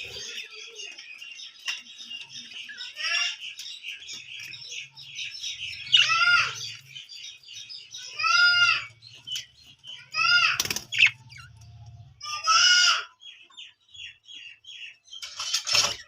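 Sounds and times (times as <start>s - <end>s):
flock of birds chirping: 0.0s - 16.0s
loud ringing bird calls: 0.0s - 16.0s.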